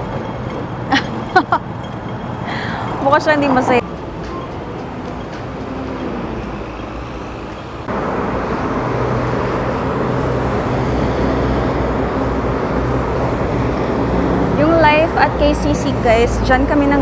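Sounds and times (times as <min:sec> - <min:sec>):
traffic driving past: 0:00.0 - 0:17.0.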